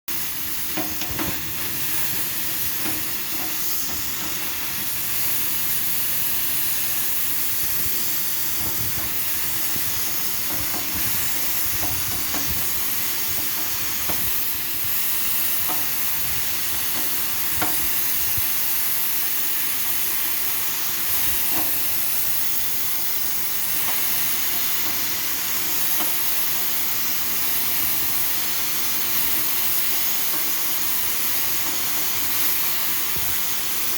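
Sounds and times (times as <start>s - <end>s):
refrigerant gas hissing: 0.1s - 33.9s.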